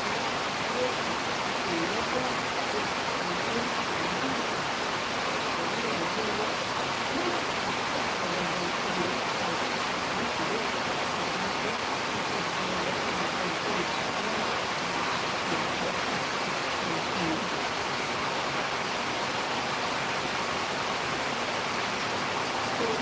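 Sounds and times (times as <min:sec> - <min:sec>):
rain: 0:00.0 - 0:23.0
wind: 0:00.0 - 0:23.0.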